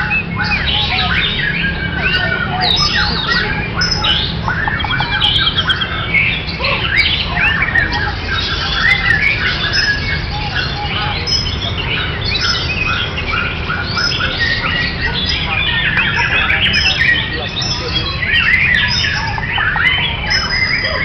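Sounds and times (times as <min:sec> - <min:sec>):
birds singing in chorus: 0:00.0 - 0:21.0.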